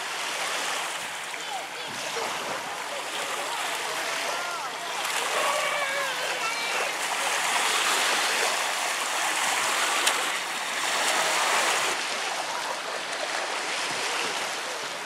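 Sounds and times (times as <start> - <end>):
waves washing onto sand: 0.0 - 15.0.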